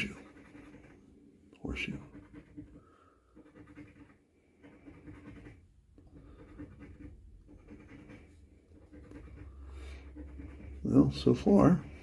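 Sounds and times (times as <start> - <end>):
coin scratching lottery ticket: 0.0 - 1.0, 1.7 - 12.0.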